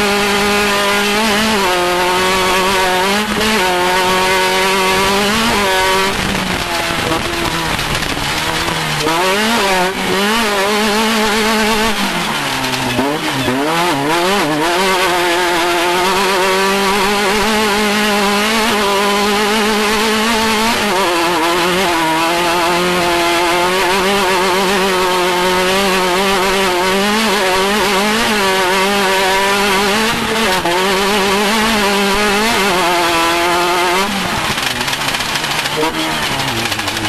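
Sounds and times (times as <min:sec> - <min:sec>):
engine running at high revs: 0:00.0 - 0:37.0.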